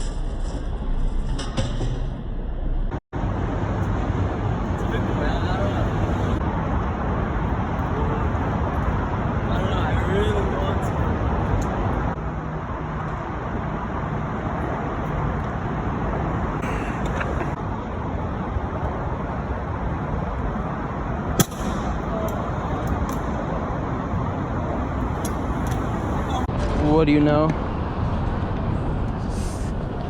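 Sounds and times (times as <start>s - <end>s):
city traffic rumble: 2.1s - 30.0s.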